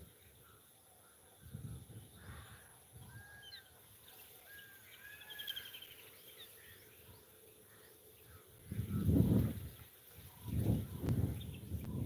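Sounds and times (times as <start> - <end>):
faint bird calls: 0.0 - 12.0.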